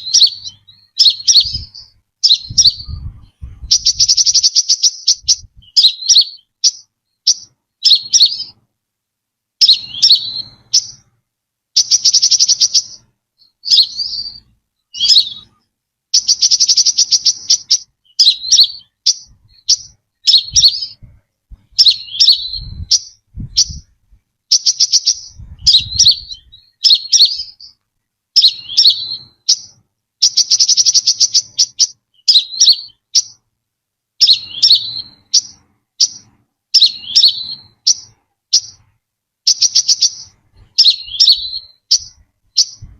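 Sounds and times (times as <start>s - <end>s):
bird trilling: 0.0s - 8.6s, 9.6s - 11.1s, 11.8s - 27.8s, 28.4s - 33.4s, 34.2s - 38.9s, 39.5s - 42.9s
bird chirps: 0.0s - 8.7s, 9.6s - 33.5s, 34.2s - 42.9s.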